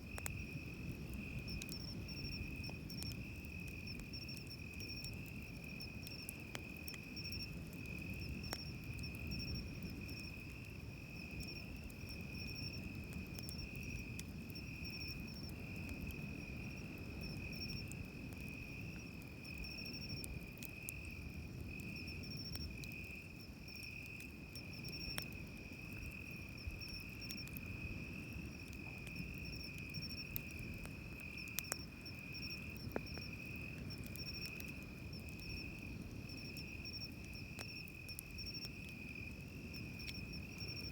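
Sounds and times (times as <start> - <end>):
campfire crackling and popping: 0.0 - 40.9
crickets chirping: 0.0 - 40.9.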